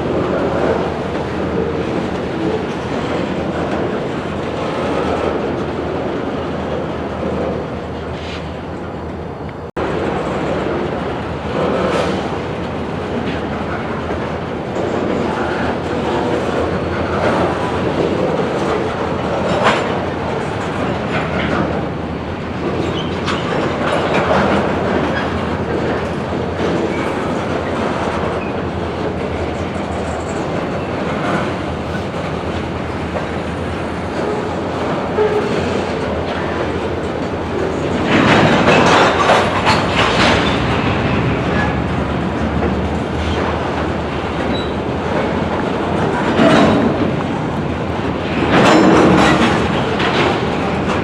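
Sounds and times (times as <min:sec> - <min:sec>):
train wheels clacking over rail joints: 0:00.0 - 0:08.6, 0:09.8 - 0:51.0.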